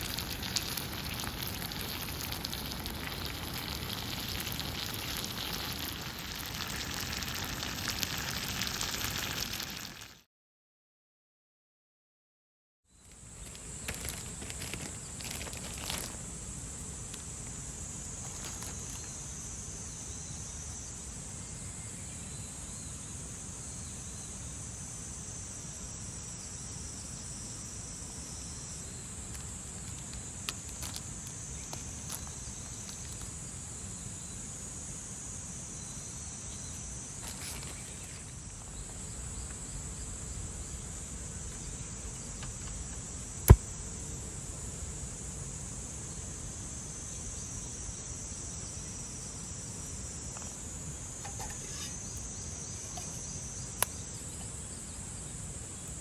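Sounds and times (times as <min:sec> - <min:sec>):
insects buzzing: 0:00.0 - 0:10.2, 0:12.9 - 0:56.0.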